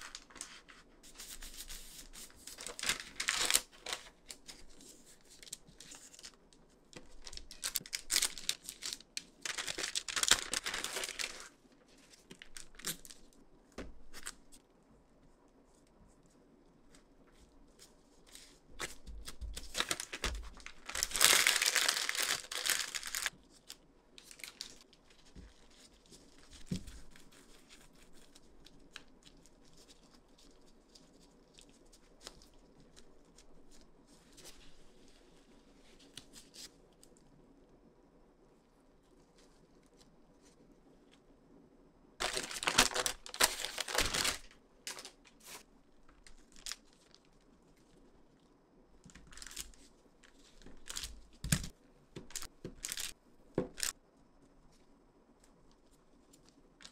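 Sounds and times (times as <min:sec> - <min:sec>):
parchment and plastic wrap crinkling: 0:00.0 - 0:14.6, 0:15.6 - 0:37.2, 0:42.2 - 0:54.0, 0:54.6 - 0:56.9.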